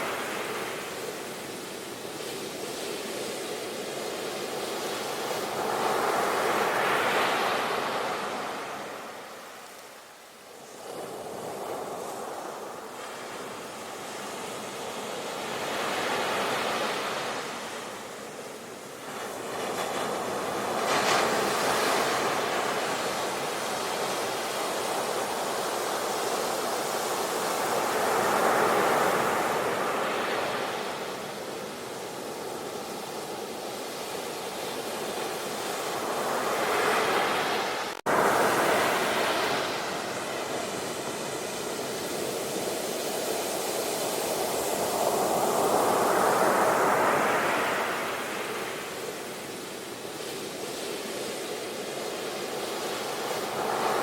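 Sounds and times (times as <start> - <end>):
ocean waves washing in: 0.0 - 54.0.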